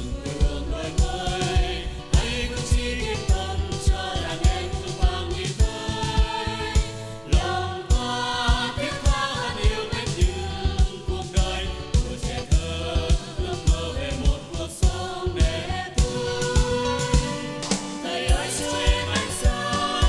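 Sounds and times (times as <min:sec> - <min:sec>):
backing track with drum beat: 0:00.0 - 0:20.0
women singing together: 0:00.0 - 0:20.0.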